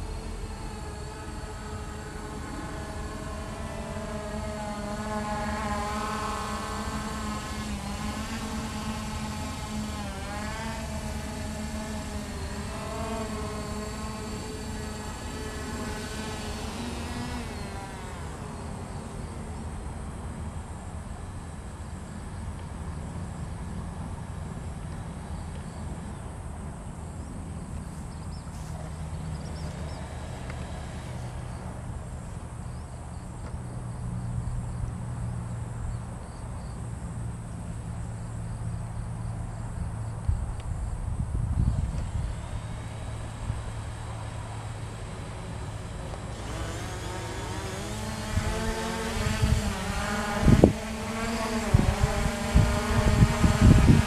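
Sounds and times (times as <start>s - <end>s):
drone propellers whining: 0.0s - 54.0s
outdoor background noise: 0.0s - 54.0s.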